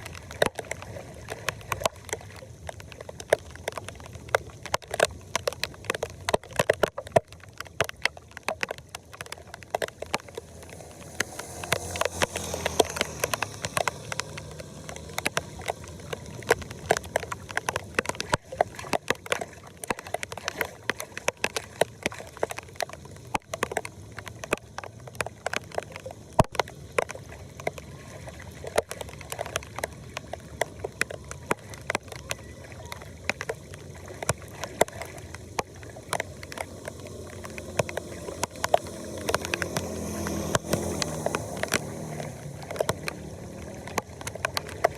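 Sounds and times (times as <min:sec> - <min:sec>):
sharp clicks and splashes: 0:00.0 - 0:44.9
water sloshing and gurgling: 0:00.0 - 0:44.9.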